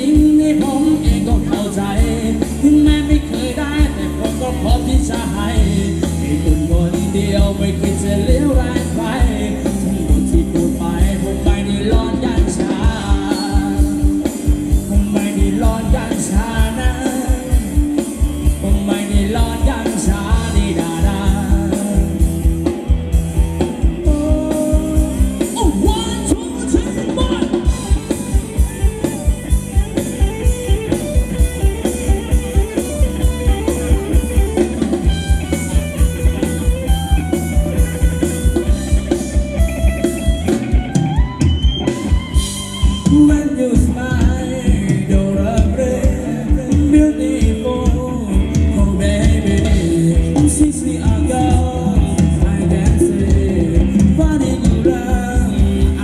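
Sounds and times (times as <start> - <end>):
fast drum beat: 0.0 - 56.0
live dance band playing: 0.0 - 56.0.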